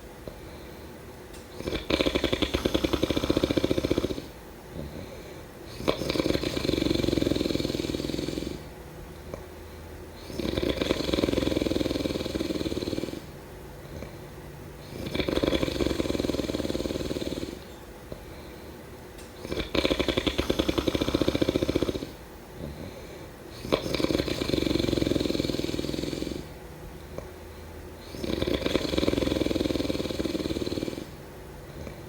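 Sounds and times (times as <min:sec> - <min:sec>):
quiet breathing: 0:00.0 - 0:32.0
snoring: 0:01.4 - 0:09.5, 0:10.1 - 0:17.8, 0:19.4 - 0:27.4, 0:28.0 - 0:32.0.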